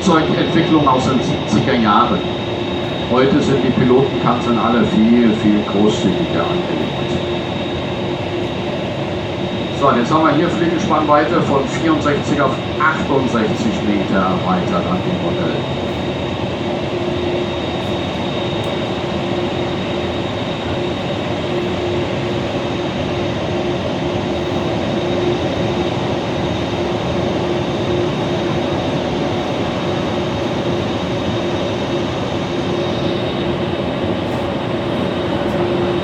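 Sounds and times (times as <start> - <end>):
bus engine drone: 0.0 - 36.0
faint high whine: 0.0 - 36.0.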